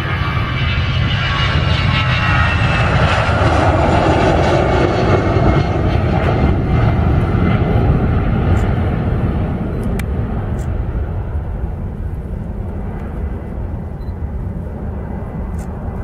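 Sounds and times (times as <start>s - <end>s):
jet engines taking off: 0.0s - 16.0s.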